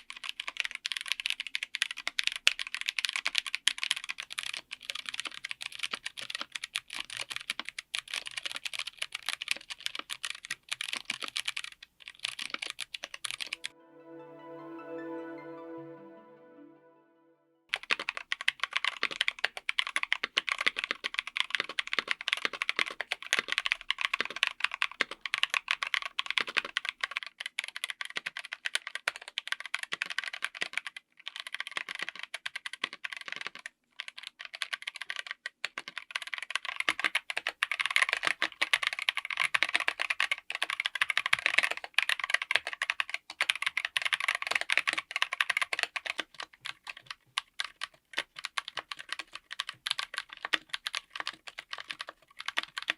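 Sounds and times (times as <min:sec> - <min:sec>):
typing on mechanical keyboard: 0:00.0 - 0:13.6, 0:18.4 - 0:52.9.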